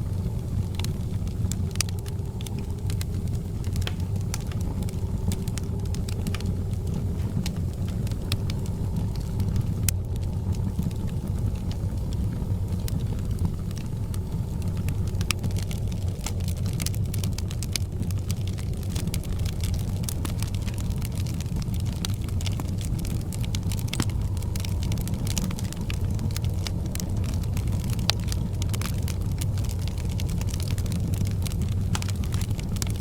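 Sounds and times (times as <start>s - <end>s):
fire crackling and popping: 0.0s - 33.0s
fire rumbling: 0.0s - 33.0s.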